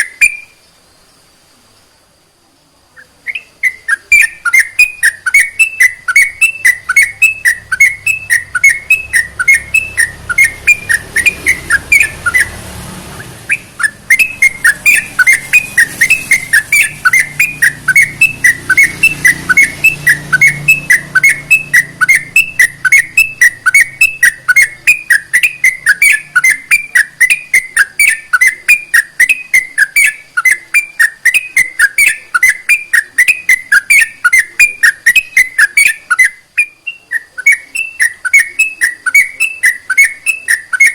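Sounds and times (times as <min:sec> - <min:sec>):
bird calling in whistled notes: 0:00.0 - 0:00.7, 0:02.9 - 0:40.9.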